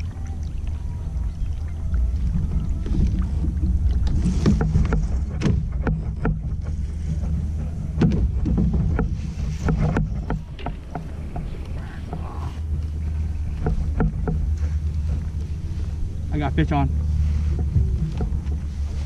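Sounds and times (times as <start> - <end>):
knocks and clicks against hull: 0.0 - 16.1, 16.9 - 19.0
steady low rumble: 0.0 - 19.0.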